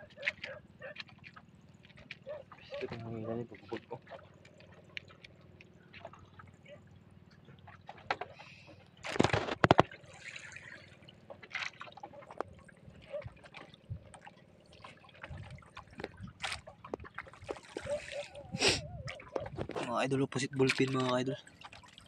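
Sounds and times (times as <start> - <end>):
water splashing and dripping: 0.0 - 22.0.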